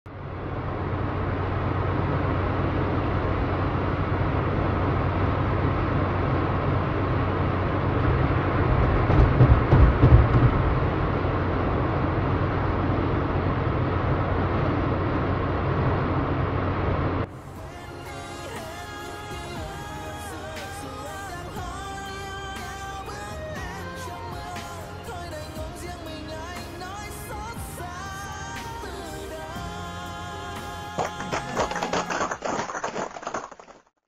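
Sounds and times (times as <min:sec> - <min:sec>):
street traffic rumble: 0:00.1 - 0:32.5.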